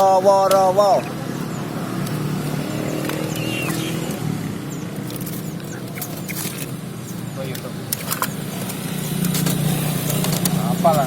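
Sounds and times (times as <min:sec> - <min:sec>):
vehicle engine hum: 0:00.0 - 0:11.0
bird chirps: 0:00.1 - 0:10.9.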